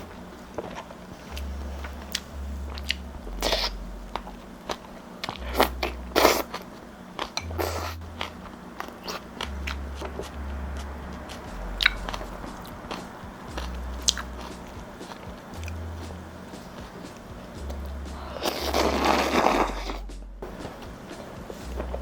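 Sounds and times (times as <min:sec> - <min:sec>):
chewing: 0:00.5 - 0:20.1
noodles slurping: 0:00.5 - 0:20.1.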